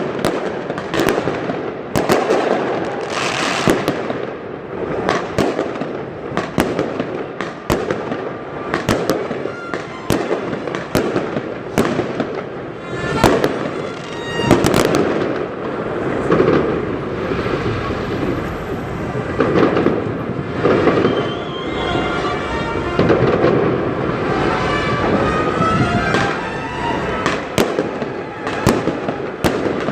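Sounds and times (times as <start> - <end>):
fireworks bangs: 0.0 - 29.9
fireworks crackling fizz: 0.0 - 29.9.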